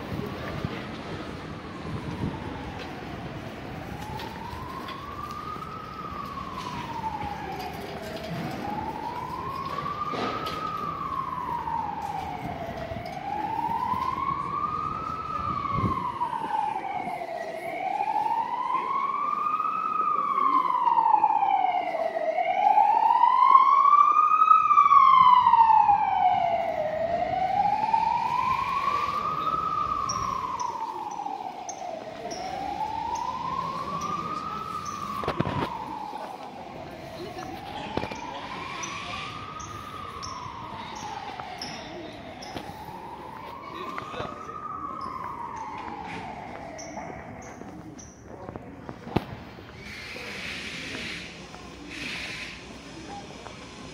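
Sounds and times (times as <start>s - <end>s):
emergency siren wailing: 0.0s - 53.9s.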